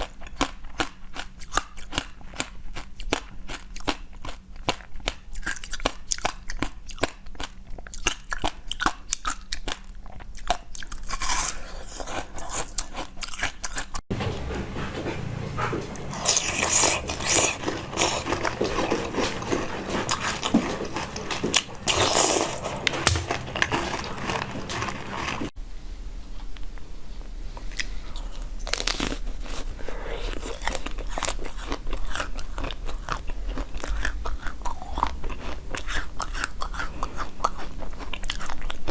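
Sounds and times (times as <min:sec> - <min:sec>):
crunchy chewing: 0:00.0 - 0:25.6, 0:26.3 - 0:38.9.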